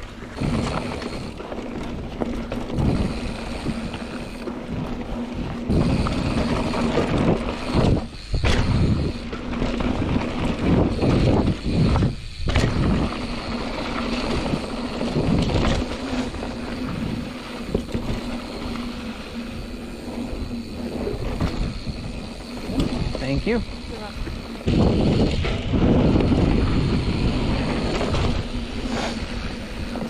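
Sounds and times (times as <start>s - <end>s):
bike tyres rumbling on dirt: 0.0s - 30.0s
wind buffeting microphone: 0.0s - 30.0s.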